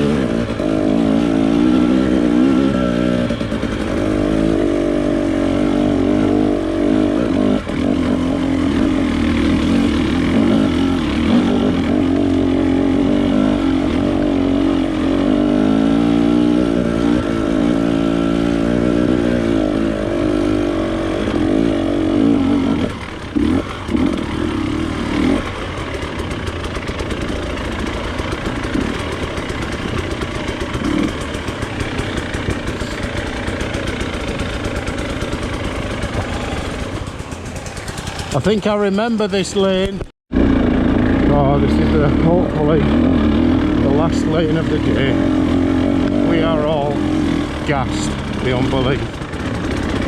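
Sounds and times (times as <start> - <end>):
off-road motorcycle engine: 0.0 - 50.0.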